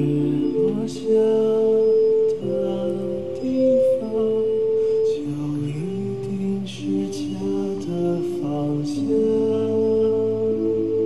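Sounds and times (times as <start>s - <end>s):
lower vocal part: 0.0s - 11.0s
person singing slow lullaby: 0.0s - 11.0s.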